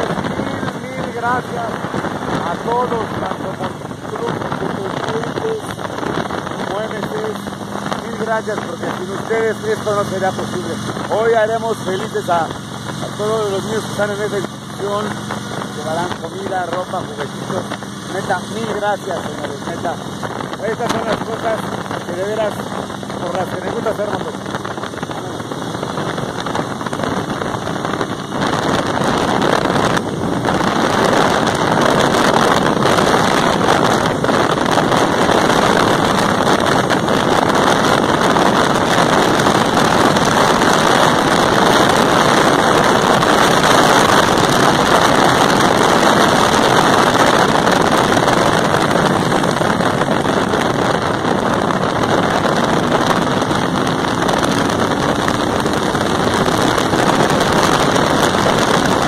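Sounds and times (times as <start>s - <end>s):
motorcycle engine and tyre noise: 0.0s - 59.0s
wind rushing over microphone: 0.0s - 59.0s.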